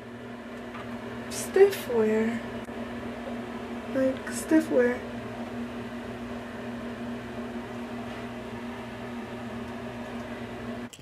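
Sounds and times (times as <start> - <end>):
machine hum: 0.0 - 10.9.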